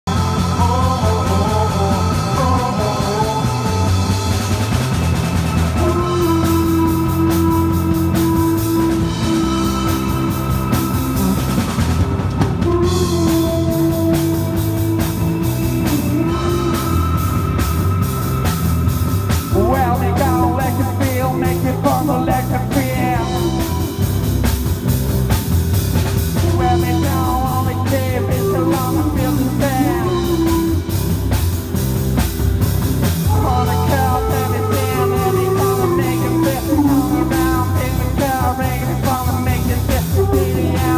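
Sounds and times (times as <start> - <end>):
drum kit: 0.0 - 40.9
electric guitar: 0.0 - 40.9
keyboard: 0.0 - 40.9.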